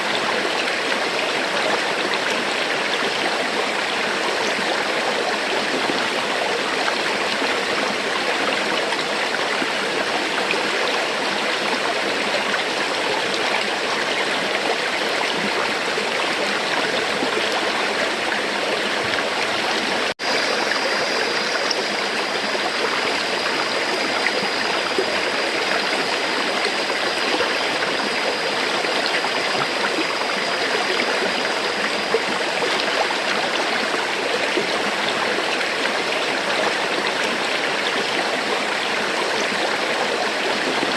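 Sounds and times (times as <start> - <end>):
river water rushing: 5.3 - 40.9.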